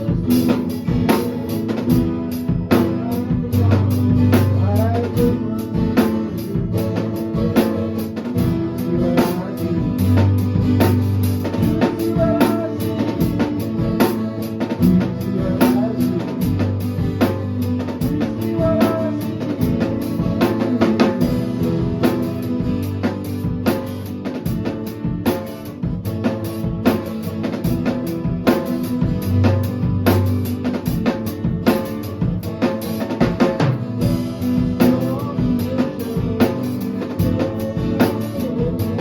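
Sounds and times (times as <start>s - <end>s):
drum kit playing a steady beat: 0.0s - 39.0s
electric guitar: 0.0s - 39.0s.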